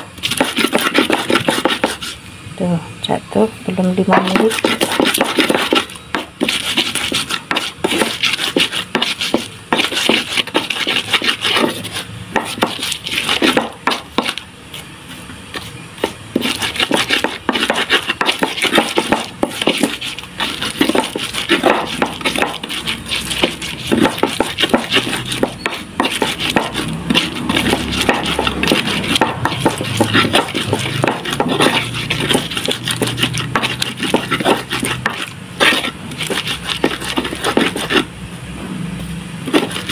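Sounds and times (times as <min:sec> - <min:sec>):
stone pestle pounding in mortar: 0:00.0 - 0:02.2, 0:04.1 - 0:14.4, 0:15.6 - 0:38.1, 0:39.5 - 0:39.9.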